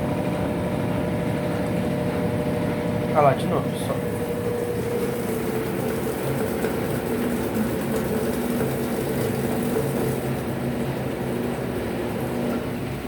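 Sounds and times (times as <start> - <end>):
churning water and clothes: 0.0 - 13.0
washing machine motor hum: 0.0 - 13.0.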